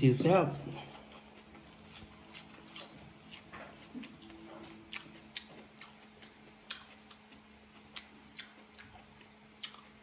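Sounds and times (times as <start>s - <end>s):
low steady hum: 0.0s - 10.0s
mouth chewing wet clicks: 1.2s - 10.0s.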